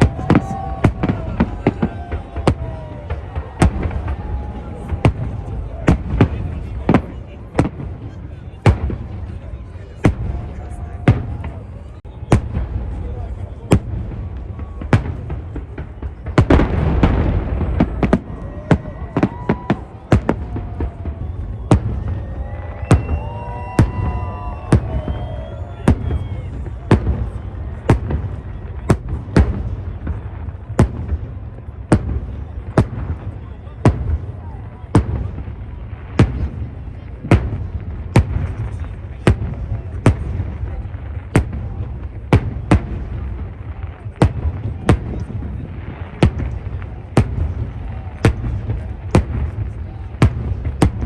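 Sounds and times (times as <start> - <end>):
fireworks bangs: 0.0 - 51.0
fireworks crackling: 0.0 - 51.0.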